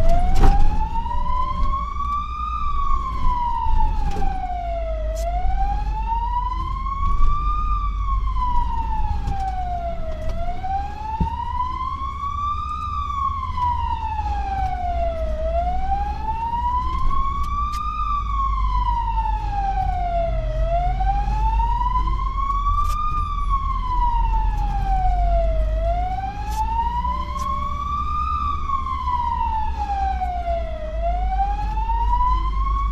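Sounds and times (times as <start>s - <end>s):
fire engine siren wailing: 0.0s - 32.9s
truck engine rumble: 0.0s - 32.9s.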